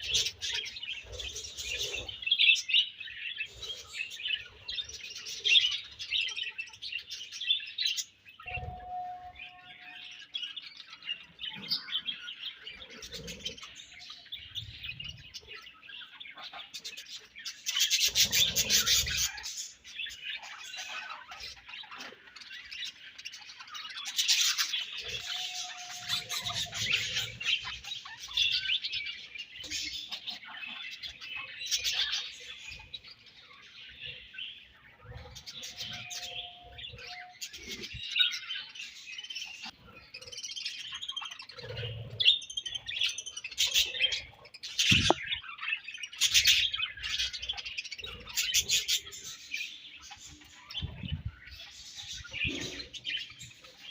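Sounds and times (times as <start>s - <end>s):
budgerigars chirping and warbling: 0.0s - 53.9s.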